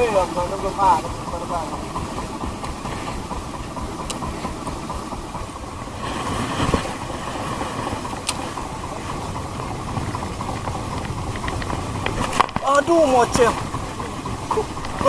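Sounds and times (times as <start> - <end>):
boat engine running: 0.0 - 15.0
choppy water: 0.0 - 15.0
wind: 0.0 - 15.0.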